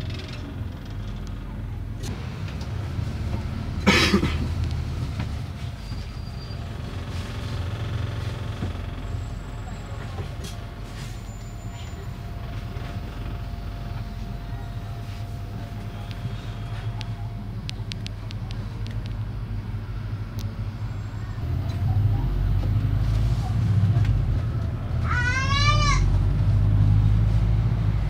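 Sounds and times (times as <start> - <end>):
bus engine rumbling: 0.0 - 28.0.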